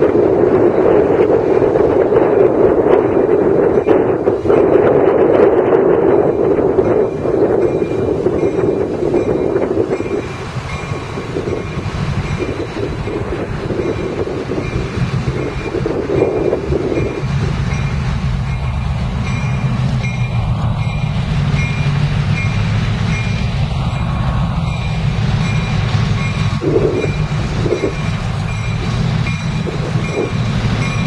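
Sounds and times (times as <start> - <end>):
diesel locomotive engine drone: 0.0 - 31.0
crossing bell dinging: 6.1 - 31.0.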